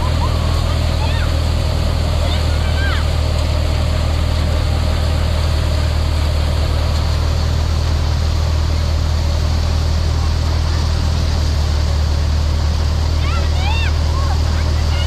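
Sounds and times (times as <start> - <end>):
thresher machine running: 0.0 - 15.0.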